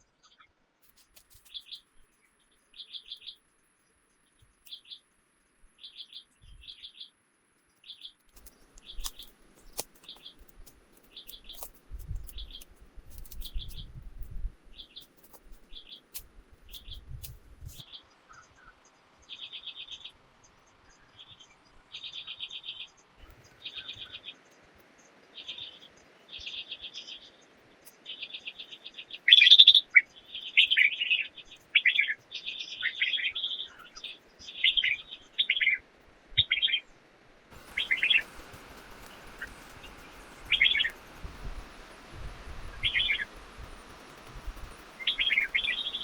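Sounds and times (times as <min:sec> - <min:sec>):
songbird chirping: 0:00.0 - 0:46.0.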